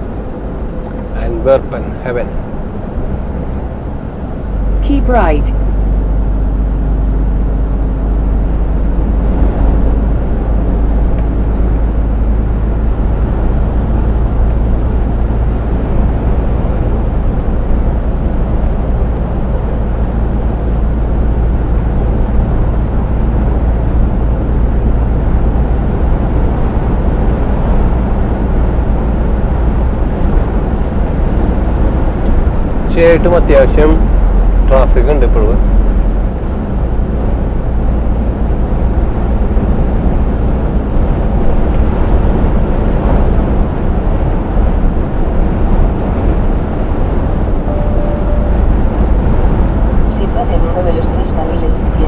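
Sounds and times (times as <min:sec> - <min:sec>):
truck engine and road noise: 0:00.0 - 0:52.0.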